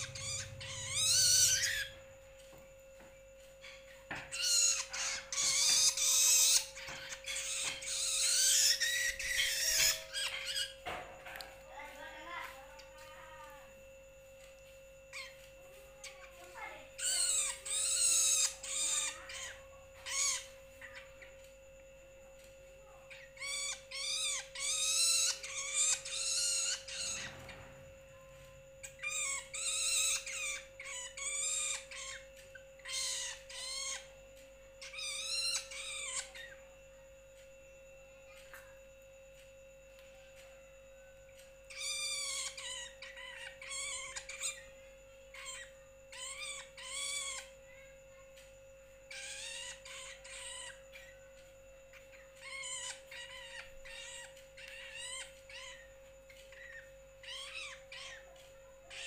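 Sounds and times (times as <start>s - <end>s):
shrike calling: 0.0s - 3.0s, 3.6s - 59.0s.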